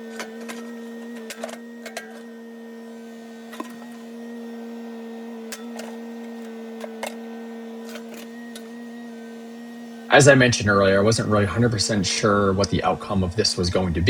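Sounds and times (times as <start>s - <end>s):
mini excavator running: 0.0s - 14.0s.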